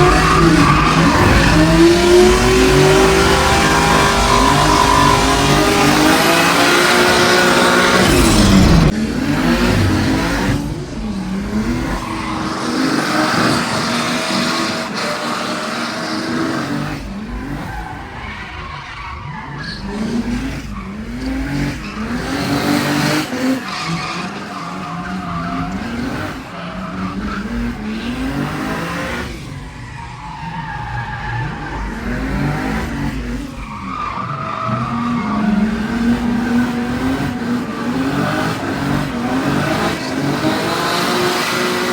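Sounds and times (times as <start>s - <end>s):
car engine revving: 0.0s - 41.9s
tyres skidding: 0.0s - 41.9s.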